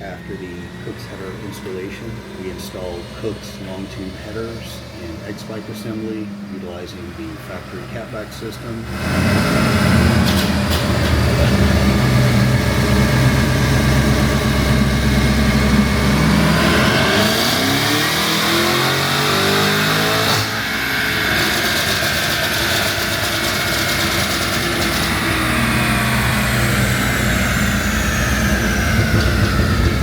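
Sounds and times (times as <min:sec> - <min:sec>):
car engine revving on dyno: 0:00.0 - 0:30.0.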